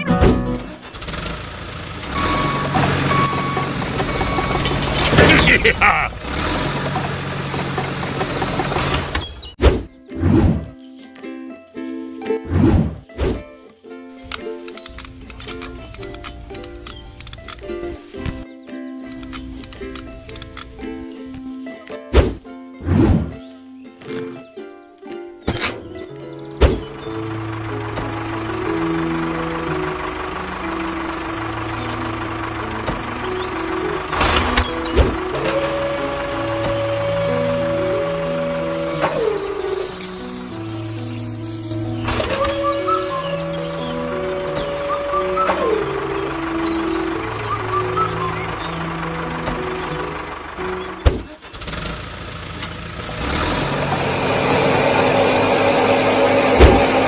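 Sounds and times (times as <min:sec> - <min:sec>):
background music: 0:00.0 - 0:00.8, 0:02.4 - 0:06.1, 0:10.0 - 0:51.2
tractor engine: 0:00.0 - 0:09.6, 0:14.2 - 0:18.4, 0:19.0 - 0:21.4, 0:25.5 - 0:57.0.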